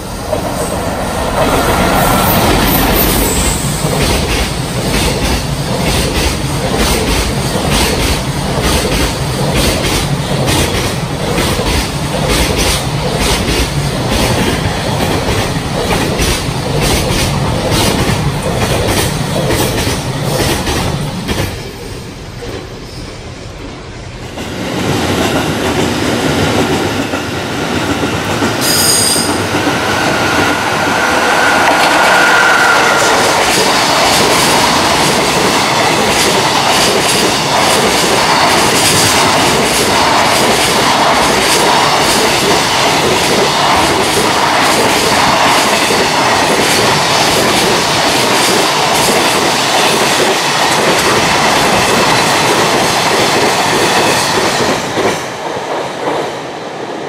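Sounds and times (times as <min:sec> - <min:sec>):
train wheels clattering over rails: 0:00.0 - 0:22.9, 0:24.3 - 0:56.5.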